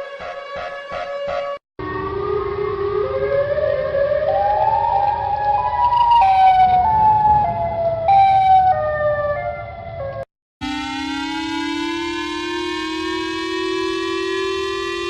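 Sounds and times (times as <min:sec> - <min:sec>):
electronic alert siren: 0:00.0 - 0:09.7, 0:10.6 - 0:15.0.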